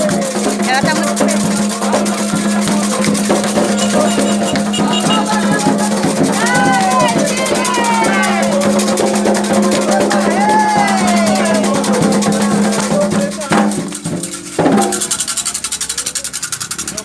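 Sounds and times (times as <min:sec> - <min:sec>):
drums: 0:00.0 - 0:17.0
fast pulsing rattle: 0:00.0 - 0:17.0
ritual singing: 0:00.0 - 0:17.0.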